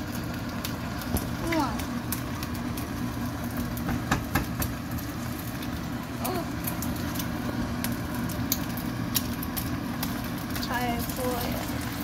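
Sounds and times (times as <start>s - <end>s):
eggs frying in hot oil: 0.0s - 12.0s
oil crackling and popping: 0.0s - 12.0s
steady low hum: 0.0s - 12.0s.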